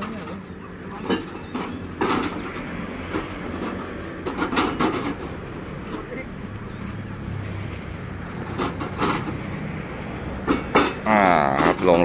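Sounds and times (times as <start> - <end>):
metal clanks and rattles: 0.0 - 6.2, 7.4 - 9.7, 10.4 - 12.0.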